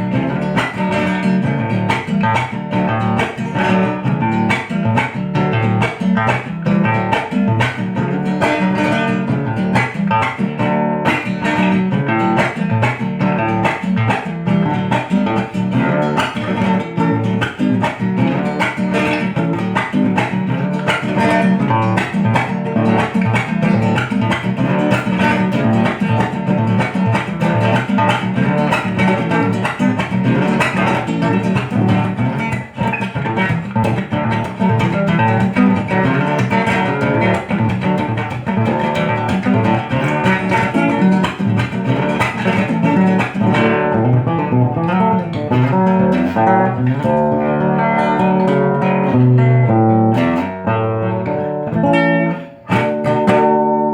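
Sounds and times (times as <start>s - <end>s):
acoustic guitar picking: 0.0s - 53.9s.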